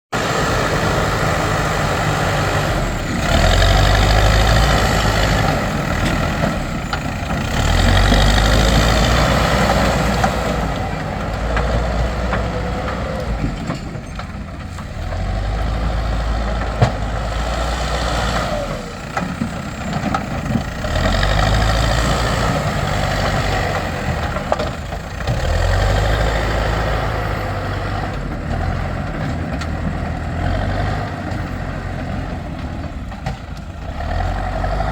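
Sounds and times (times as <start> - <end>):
diesel engine revving and idling: 0.1 - 34.9.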